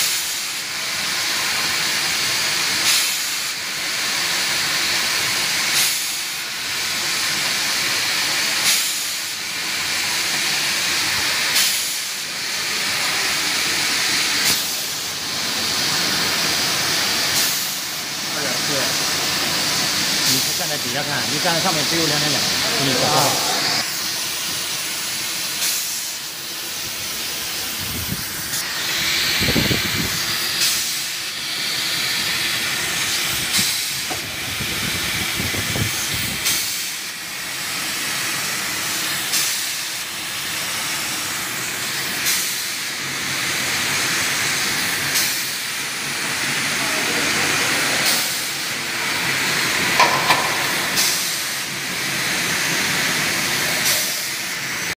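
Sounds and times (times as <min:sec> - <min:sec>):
bottle filling machine running: 0:00.0 - 0:55.0
hiss of gas: 0:00.0 - 0:55.0.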